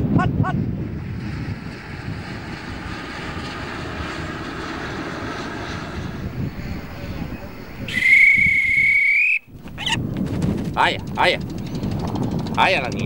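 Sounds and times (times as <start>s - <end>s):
airplane engine rush: 0.0s - 13.0s.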